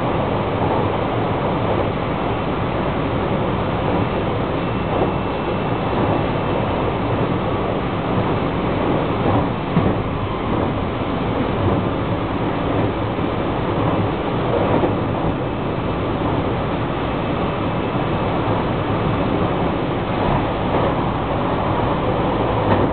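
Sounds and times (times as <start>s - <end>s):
train jolt: 0.0s - 22.9s
train wheels rumbling on rails: 0.0s - 22.9s.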